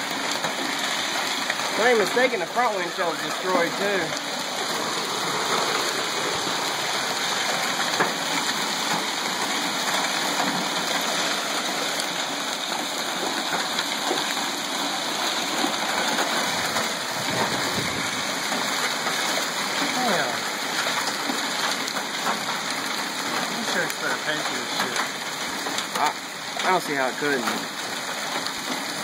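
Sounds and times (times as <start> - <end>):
hail and rain pelting down: 0.0 - 29.0
hailstones ticking: 0.0 - 29.0.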